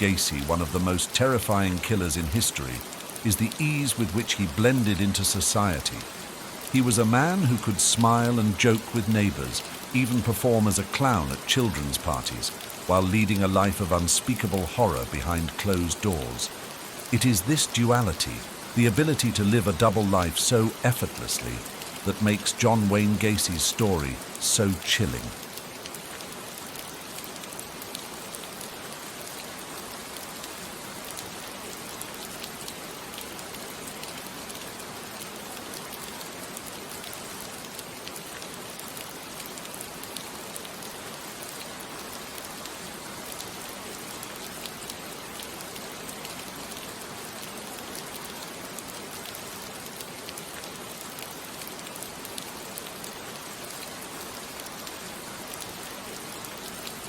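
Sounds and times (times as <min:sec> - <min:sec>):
rain pattering on a surface: 0:00.0 - 0:57.0.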